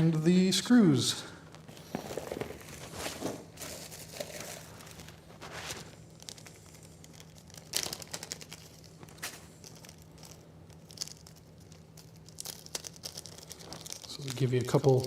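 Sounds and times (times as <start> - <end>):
plastic bag crinkling: 1.7 - 15.0.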